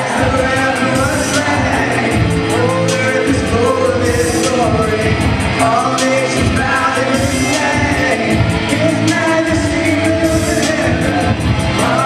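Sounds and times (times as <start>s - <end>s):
live band playing hip-hop: 0.0s - 12.0s
person singing: 0.0s - 12.0s.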